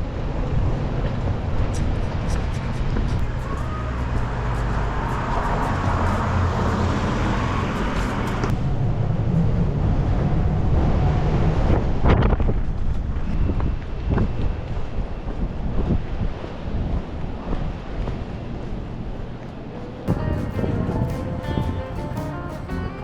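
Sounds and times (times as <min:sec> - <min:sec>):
road traffic: 0:00.0 - 0:13.2, 0:17.3 - 0:23.0
wind rumbling on microphone: 0:00.0 - 0:23.0.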